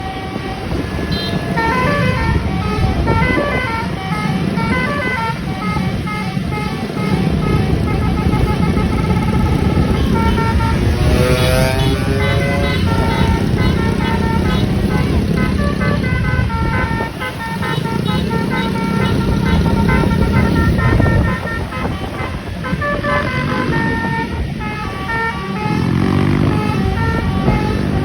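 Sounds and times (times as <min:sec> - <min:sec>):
bus engine low rumble: 0:00.0 - 0:28.0
multi-tone bus horn tune: 0:00.0 - 0:28.0.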